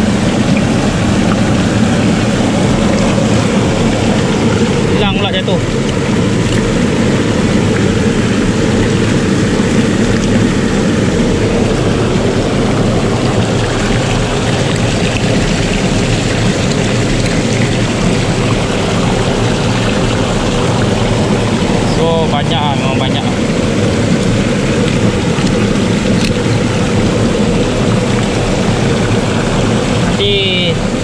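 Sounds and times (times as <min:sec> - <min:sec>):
water washing over rocks: 0:00.0 - 0:31.0.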